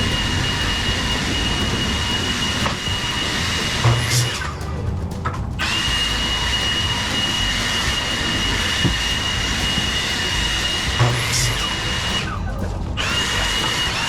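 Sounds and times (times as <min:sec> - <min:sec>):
band saw blade cutting log: 0:00.0 - 0:14.0.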